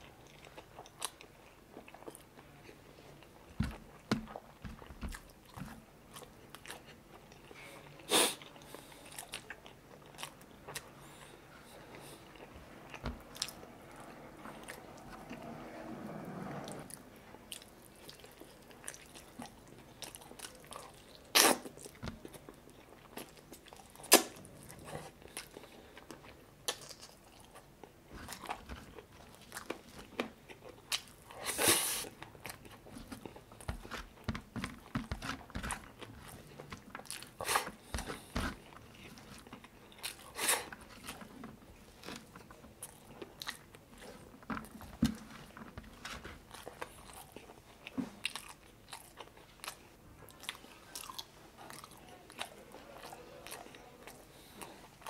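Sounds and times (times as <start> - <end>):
man chewing wetly: 0.0 - 15.4, 17.5 - 55.0.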